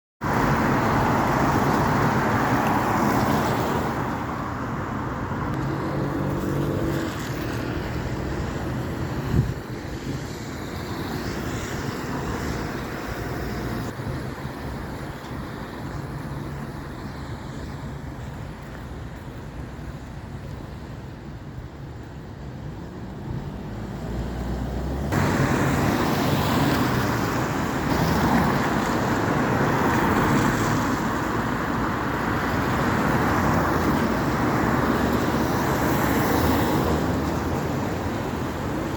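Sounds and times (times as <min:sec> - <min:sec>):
road traffic passing: 0:00.2 - 0:38.9.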